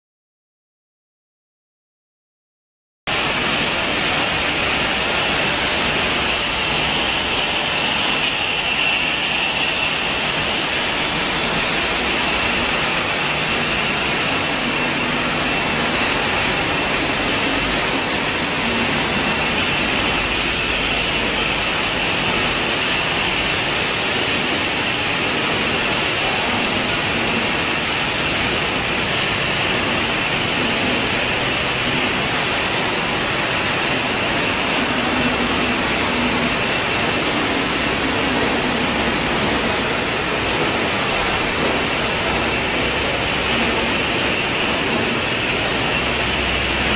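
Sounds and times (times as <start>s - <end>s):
high-pitched machine whine: 3.1s - 46.9s
mechanical din of production line: 3.1s - 46.9s.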